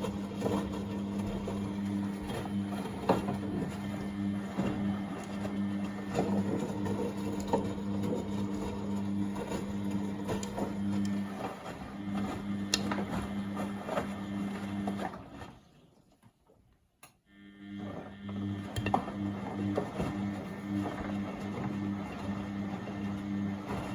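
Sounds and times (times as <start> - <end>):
washing machine motor hum: 0.0 - 16.1, 17.3 - 23.9.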